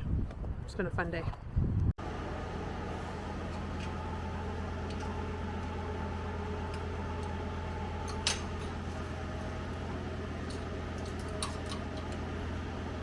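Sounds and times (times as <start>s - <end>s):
mechanical hum: 1.4s - 13.0s.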